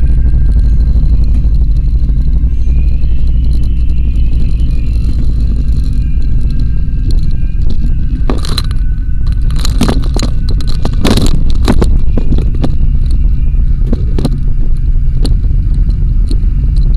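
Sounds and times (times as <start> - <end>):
car driving rumble: 0.0 - 16.9.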